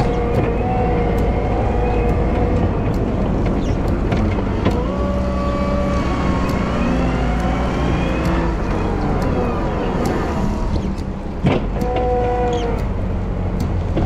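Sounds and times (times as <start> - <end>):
light ticks: 0.0 - 14.0
wheel loader engine drone: 0.0 - 14.0.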